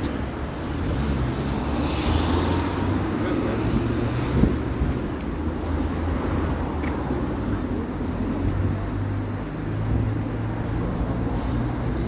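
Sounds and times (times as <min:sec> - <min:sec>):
road noise: 0:00.0 - 0:12.0
vehicle engines humming: 0:00.0 - 0:12.0.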